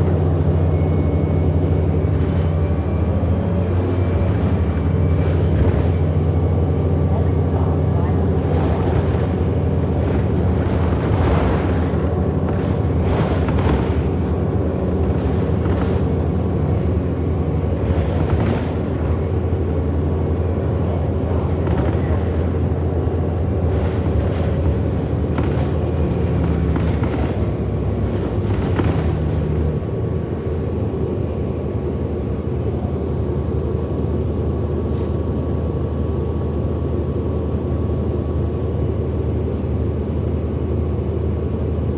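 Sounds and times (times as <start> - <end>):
bus drivetrain drone: 0.0 - 41.9.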